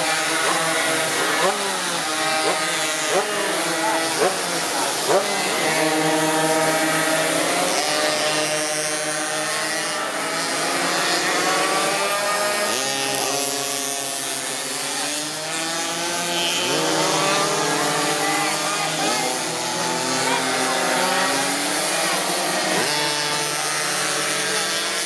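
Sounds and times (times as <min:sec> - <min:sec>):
small two-stroke engines racing: 0:00.0 - 0:25.0.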